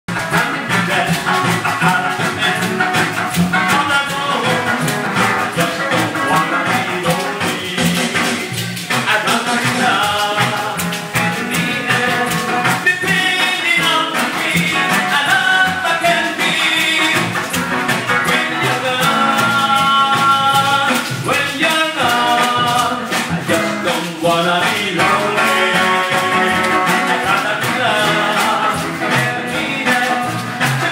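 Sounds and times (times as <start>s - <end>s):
live band music over speaker: 0.1s - 30.9s
person singing: 0.1s - 30.9s.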